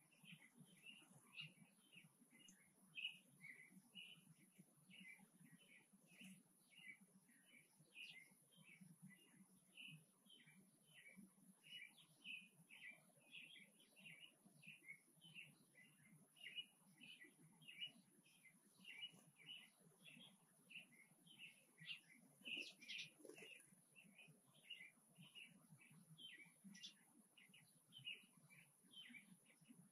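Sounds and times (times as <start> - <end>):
small birds chirping faintly: 0.0 - 29.9.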